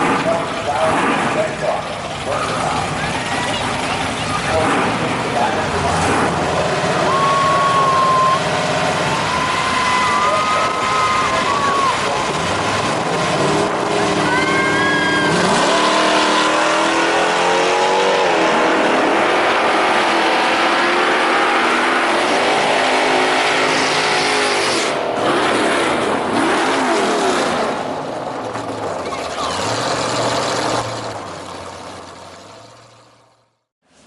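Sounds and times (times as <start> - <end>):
drag racing engine at full throttle: 0.0 - 34.0.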